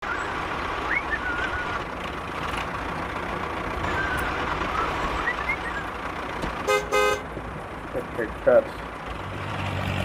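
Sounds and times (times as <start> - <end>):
vehicle engine noise: 0.0 - 10.0.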